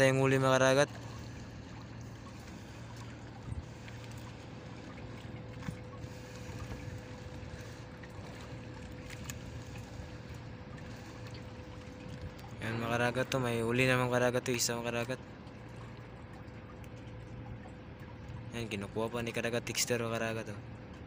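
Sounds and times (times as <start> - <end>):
faint whine: 0.0 - 20.8
low steady hum: 0.0 - 21.0.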